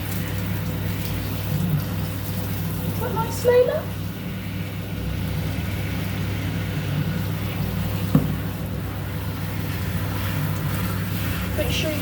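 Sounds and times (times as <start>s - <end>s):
shower water running: 0.0s - 12.0s.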